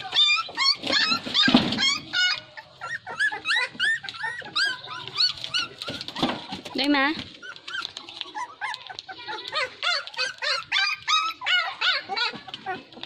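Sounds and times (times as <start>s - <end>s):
puppies whining and yelping: 0.0s - 13.0s.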